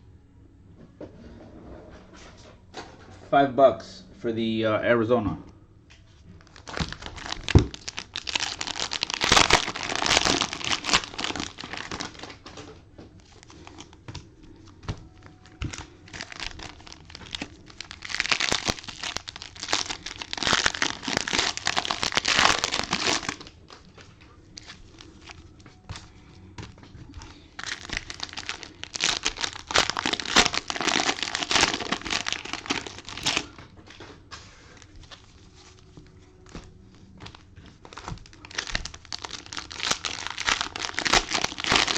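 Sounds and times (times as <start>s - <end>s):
plastic wrapping crinkling and tearing: 6.4s - 34.0s, 34.7s - 41.9s.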